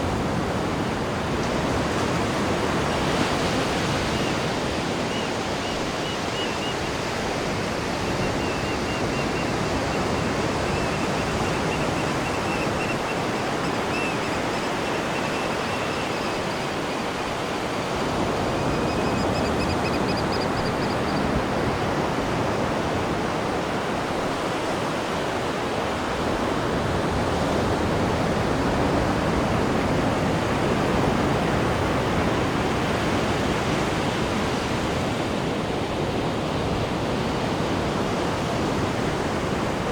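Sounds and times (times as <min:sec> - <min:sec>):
seawater rushing and churning: 0:00.0 - 0:39.9.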